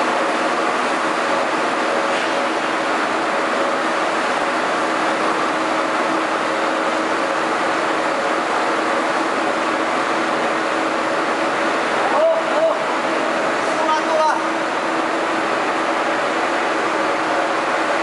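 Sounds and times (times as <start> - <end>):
hydraulic machinery humming: 0.0 - 18.0.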